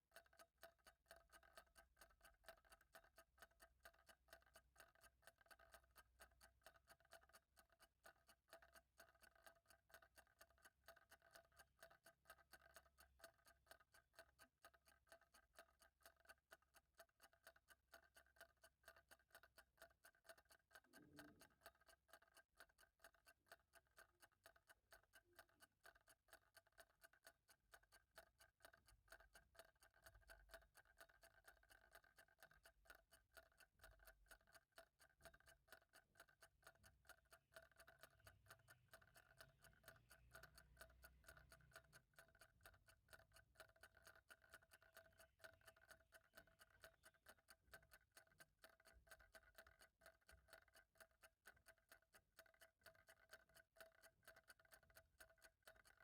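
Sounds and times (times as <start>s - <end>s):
clock ticking faintly: 0.0s - 56.0s.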